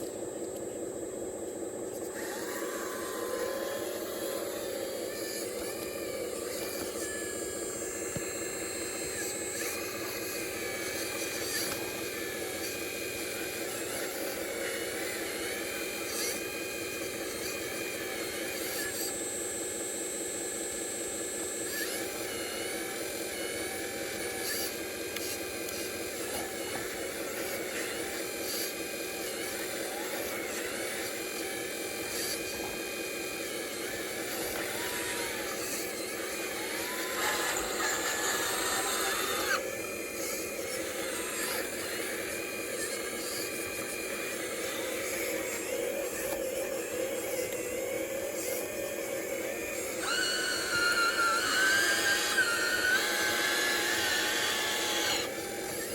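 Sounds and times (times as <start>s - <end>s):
small electric motors whining: 0.0s - 55.9s.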